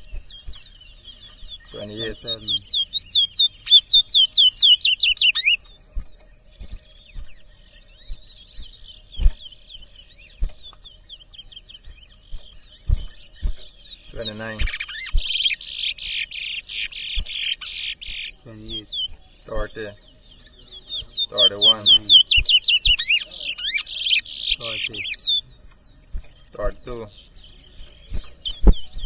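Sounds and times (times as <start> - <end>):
finch singing: 0.0 - 29.0
soft chirps: 0.0 - 29.0.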